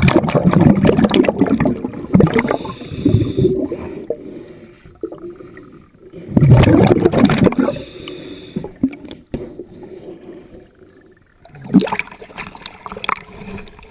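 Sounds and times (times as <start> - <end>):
gurgling rush of exhaled bubbles: 0.0 - 4.3, 4.9 - 7.9, 8.6 - 13.9
underwater bubbling: 0.0 - 13.9.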